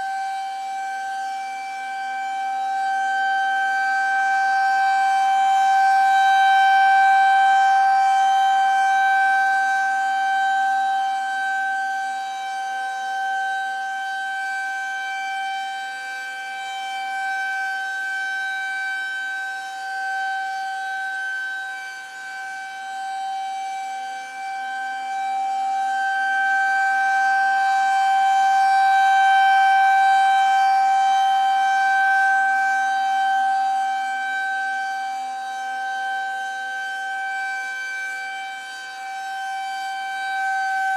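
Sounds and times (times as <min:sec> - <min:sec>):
rotating warning siren: 0:00.0 - 0:40.9.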